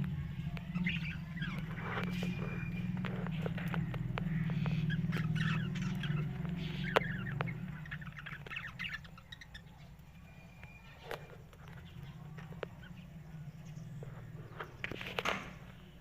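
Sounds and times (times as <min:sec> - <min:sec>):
budgerigars chattering and warbling: 0:00.0 - 0:15.3.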